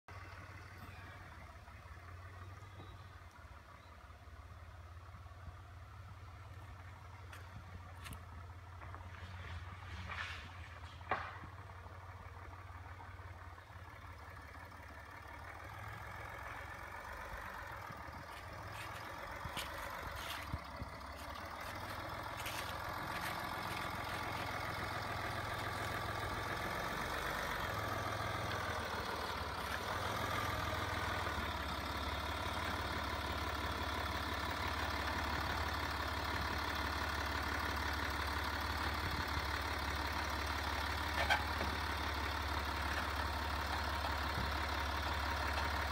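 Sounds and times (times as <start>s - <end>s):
engine running at low revs: 0.1s - 45.9s.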